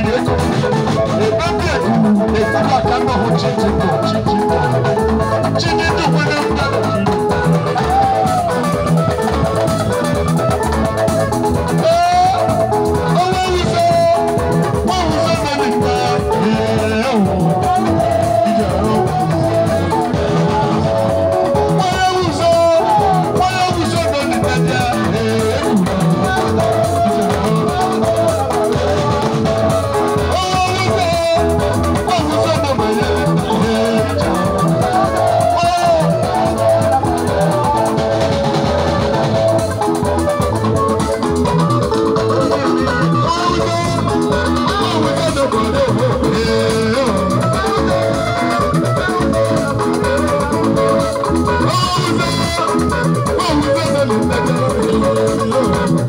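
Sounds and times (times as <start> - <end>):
conga hand drums: 0.0 - 56.0
drum kit: 0.0 - 56.0
electric guitar melody: 0.0 - 56.0.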